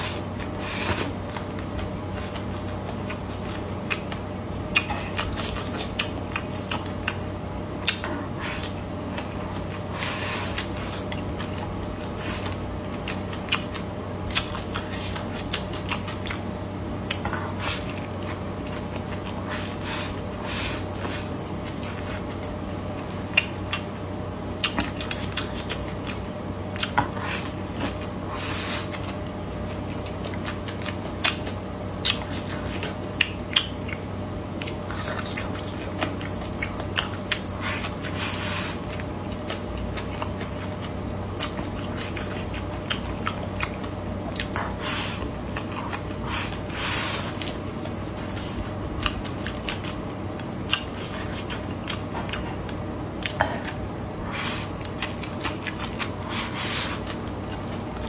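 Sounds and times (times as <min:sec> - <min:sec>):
close-up chewing and mouth sounds: 0:00.0 - 0:58.0.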